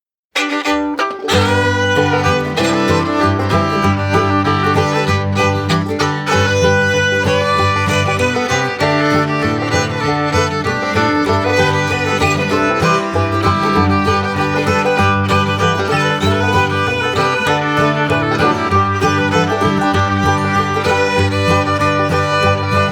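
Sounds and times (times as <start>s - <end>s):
bluegrass tune with fiddle and banjo: 0.4s - 22.9s.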